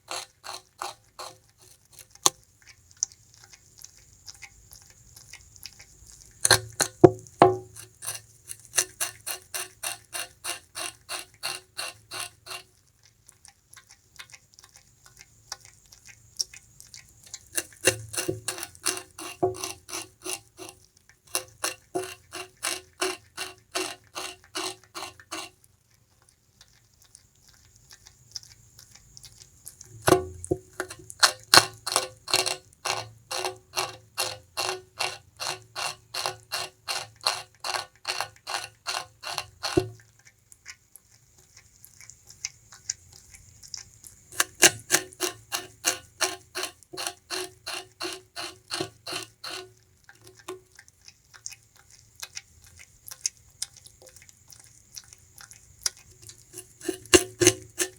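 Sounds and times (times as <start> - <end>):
rat gnawing sugarcane: 0.0 - 57.9.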